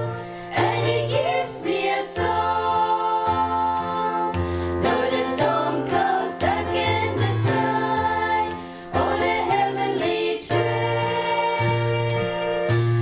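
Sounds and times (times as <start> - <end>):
voices singing a hymn: 0.0 - 13.0.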